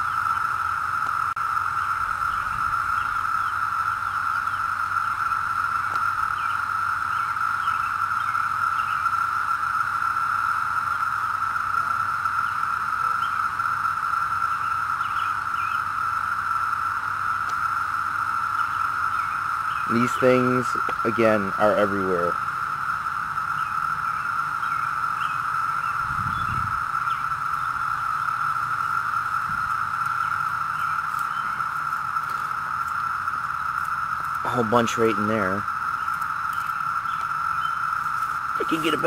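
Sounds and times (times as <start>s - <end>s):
cicadas droning: 0.0s - 39.0s.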